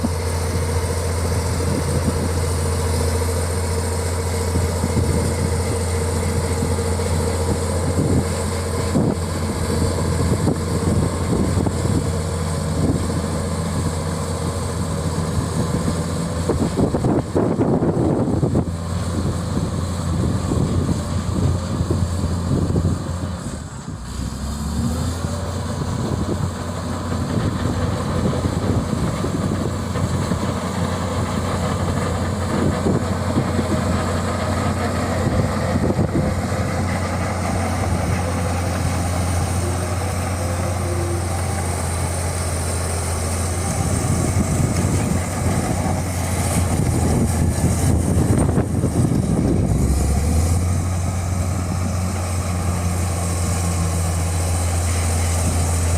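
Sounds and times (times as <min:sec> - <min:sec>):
heavy vehicle engine running: 0:00.0 - 0:55.9.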